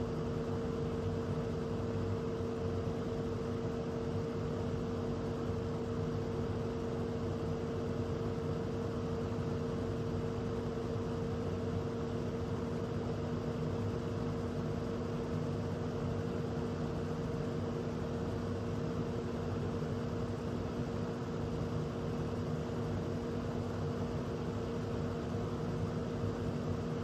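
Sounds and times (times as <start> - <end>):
fan motor hum: 0.0 - 27.0.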